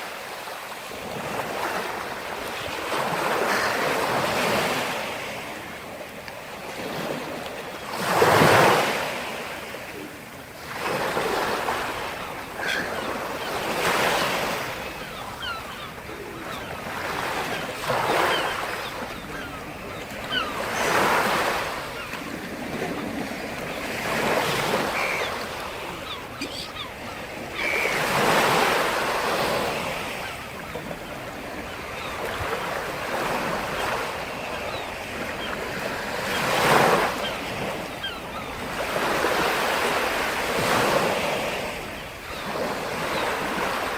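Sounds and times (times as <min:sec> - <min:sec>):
waves breaking on shore: 0:00.0 - 0:43.9.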